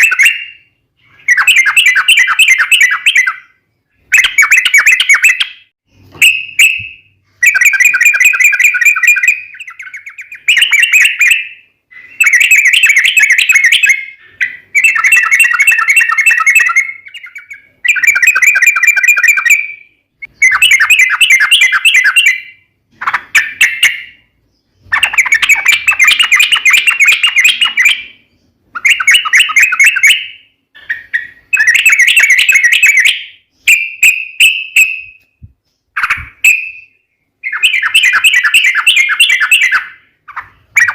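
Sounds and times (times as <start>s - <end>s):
bulbul singing rattling phrases: 0.0s - 40.9s.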